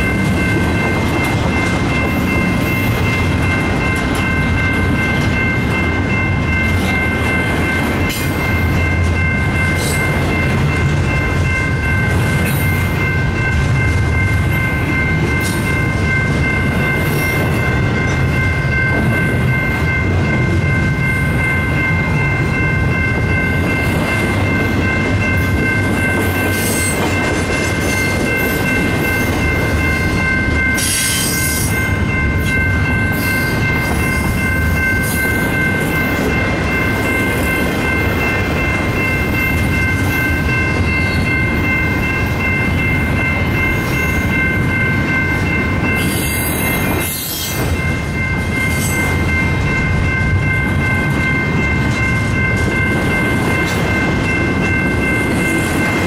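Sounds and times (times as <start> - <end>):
crossing bell ringing: 0.0 - 56.0
train rumble with wheel clatter: 0.0 - 56.0.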